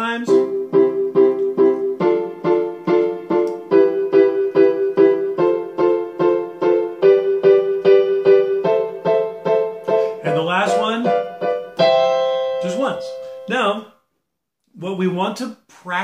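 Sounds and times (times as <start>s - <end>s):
keyboard piano chords: 0.0s - 13.8s.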